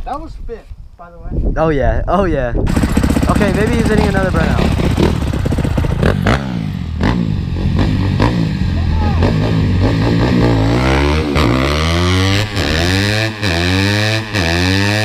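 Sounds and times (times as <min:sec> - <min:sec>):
dirt bike engine revving: 0:02.7 - 0:15.0.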